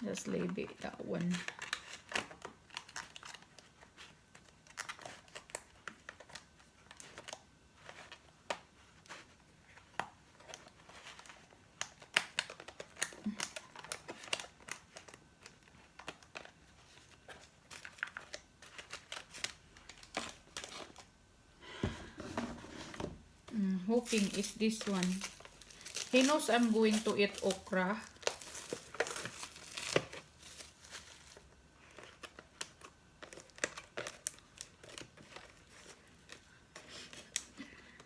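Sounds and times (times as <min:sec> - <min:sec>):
plastic packaging crinkling: 0:00.1 - 0:21.1, 0:23.6 - 0:37.9.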